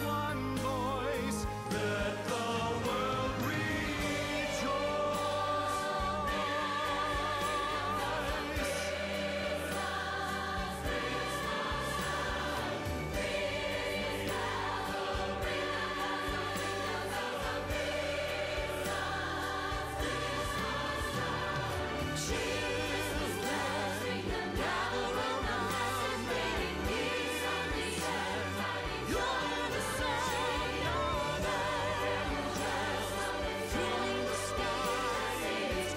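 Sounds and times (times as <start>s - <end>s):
choir singing with instruments: 0.0s - 35.9s.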